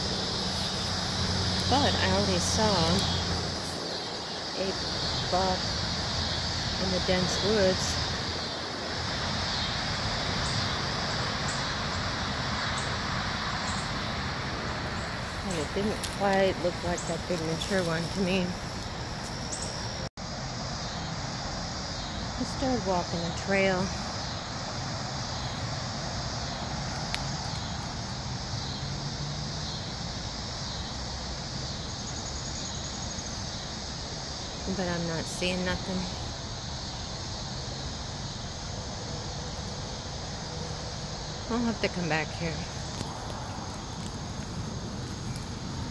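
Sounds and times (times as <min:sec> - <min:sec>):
cicadas singing: 0:00.0 - 0:45.9
distant road traffic: 0:00.0 - 0:45.9.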